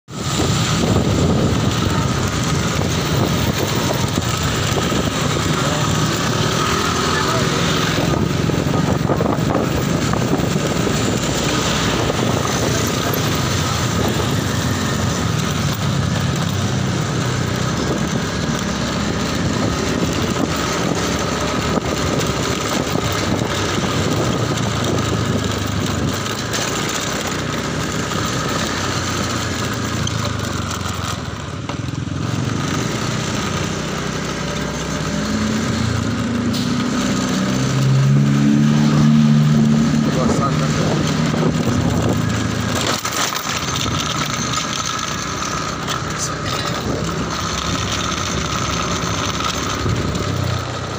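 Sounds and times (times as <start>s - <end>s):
wind and road noise: 0.0s - 50.9s
motorcycle engine running: 0.1s - 50.9s.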